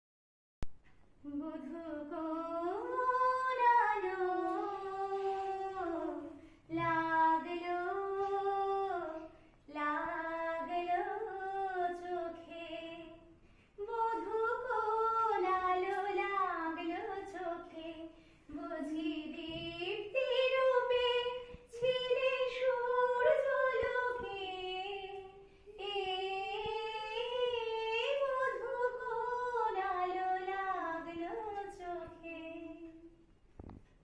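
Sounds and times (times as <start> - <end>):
woman singing slow melody: 1.2 - 13.2, 13.8 - 33.1.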